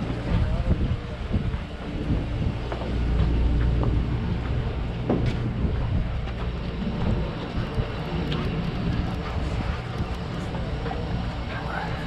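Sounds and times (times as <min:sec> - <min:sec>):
boat machinery droning: 0:00.0 - 0:12.0.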